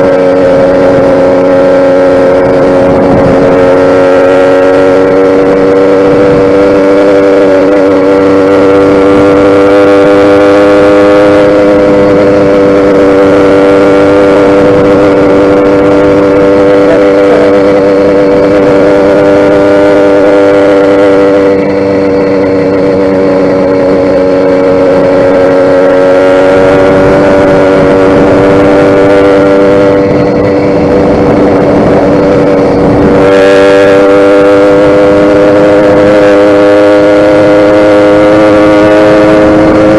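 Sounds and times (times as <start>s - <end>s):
two-stroke engine running fast: 0.0s - 39.9s.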